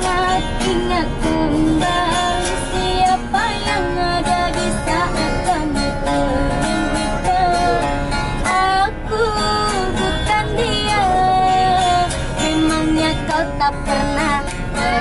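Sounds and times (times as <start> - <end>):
acoustic guitar strumming: 0.0 - 15.0
person singing: 0.0 - 15.0.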